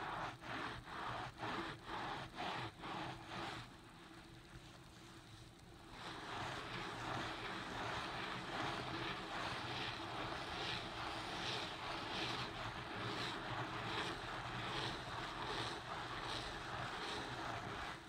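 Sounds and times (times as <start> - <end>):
wet scrubbing of carpet: 0.0 - 3.7, 6.0 - 18.0.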